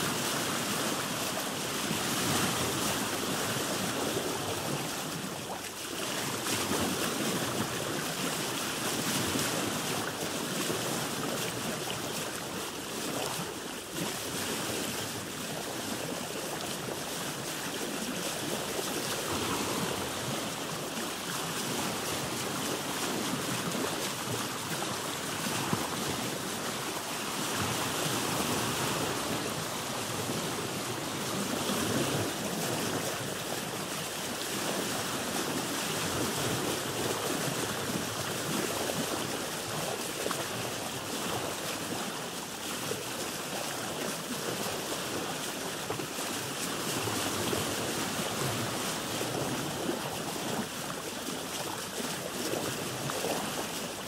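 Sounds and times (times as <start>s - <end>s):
water lapping around a boat: 0.0s - 54.0s.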